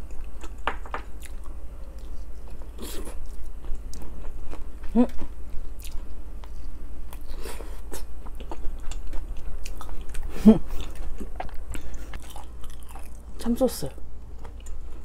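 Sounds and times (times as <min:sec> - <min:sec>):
chewing with wet crunches: 0:01.2 - 0:13.3.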